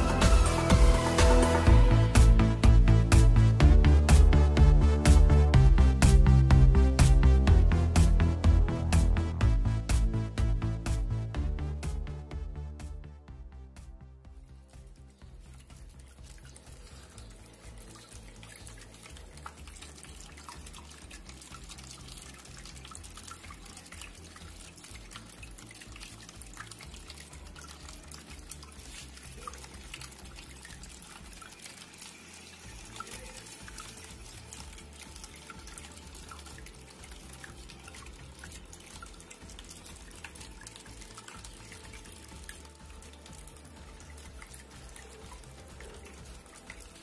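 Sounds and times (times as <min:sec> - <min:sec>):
fountain water trickling and splashing: 0:00.0 - 0:12.3, 0:14.3 - 0:47.0.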